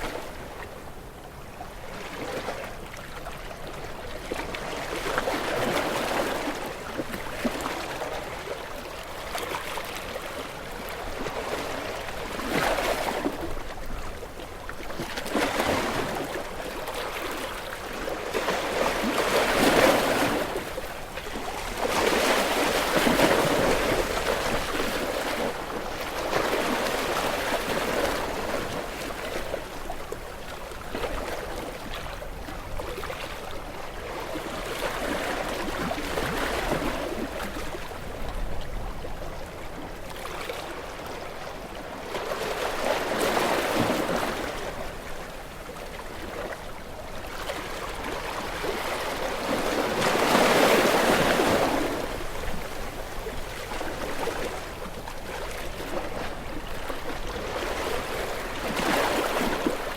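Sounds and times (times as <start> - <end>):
small waves washing ashore: 0.0 - 59.9.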